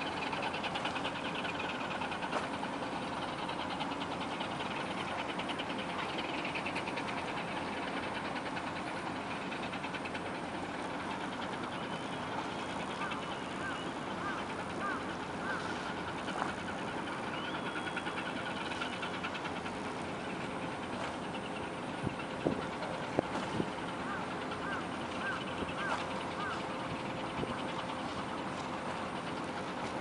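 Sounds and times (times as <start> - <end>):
bird calling: 0.0 - 30.0
engine drone over water: 0.0 - 30.0.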